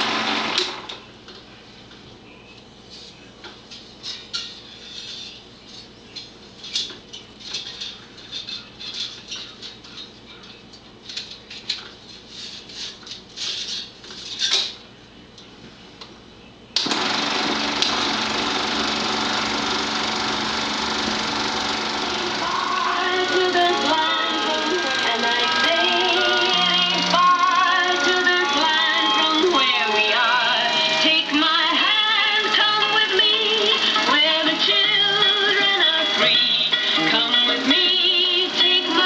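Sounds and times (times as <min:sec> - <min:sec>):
projector hum: 0:00.0 - 0:39.0.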